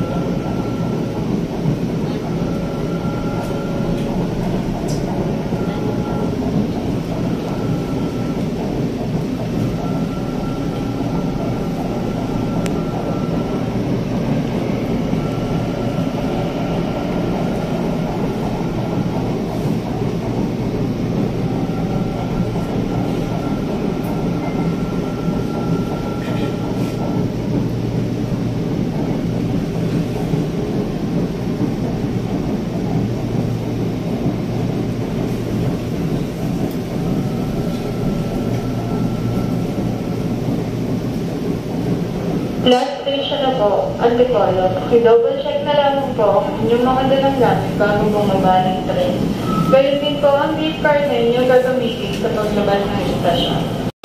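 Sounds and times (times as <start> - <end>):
train wheels and motors rumbling: 0.0 - 53.9.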